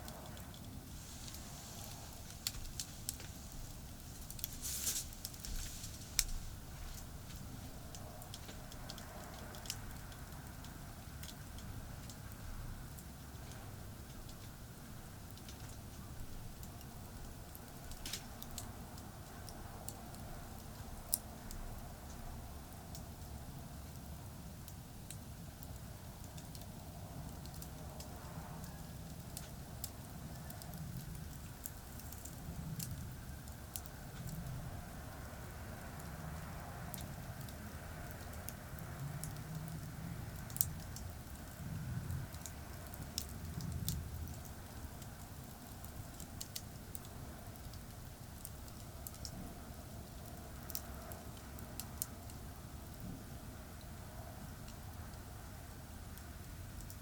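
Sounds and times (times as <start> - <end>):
campfire crackling and popping: 0.0 - 57.0
distant traffic rumble: 0.0 - 57.0.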